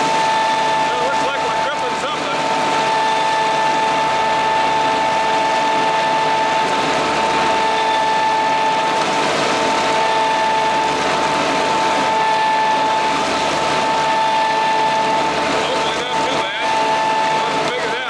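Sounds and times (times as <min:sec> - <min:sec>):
diesel engine running: 0:00.0 - 0:18.0
high whine: 0:00.0 - 0:18.0.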